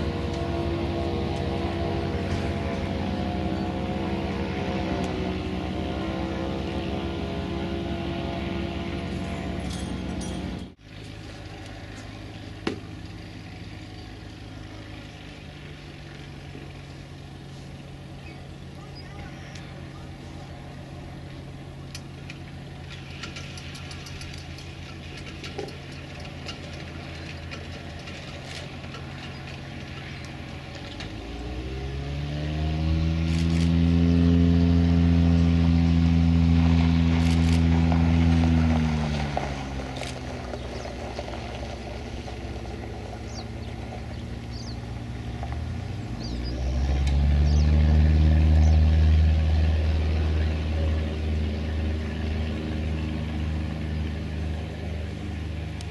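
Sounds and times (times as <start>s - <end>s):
propeller plane engine: 0.0s - 55.9s.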